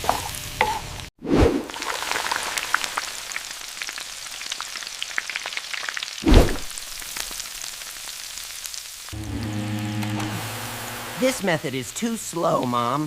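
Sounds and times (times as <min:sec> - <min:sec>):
potatoes frying in hot oil: 0:01.7 - 0:13.0.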